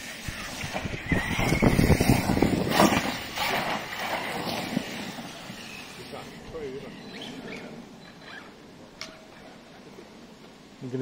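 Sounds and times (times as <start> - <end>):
rc car driving: 0.0 - 9.7.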